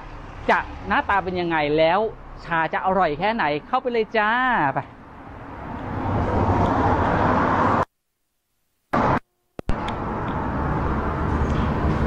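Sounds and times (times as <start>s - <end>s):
passing cars: 0.0s - 7.9s, 9.0s - 12.0s.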